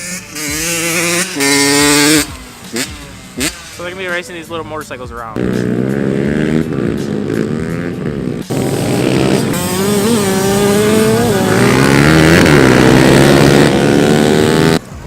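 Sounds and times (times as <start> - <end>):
small motorcycle engines revving: 0.0 - 4.3, 5.4 - 15.0.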